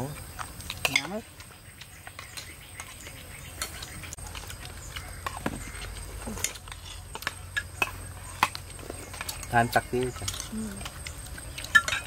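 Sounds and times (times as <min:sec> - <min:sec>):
cutlery clinking against plates: 0:02.0 - 0:12.0.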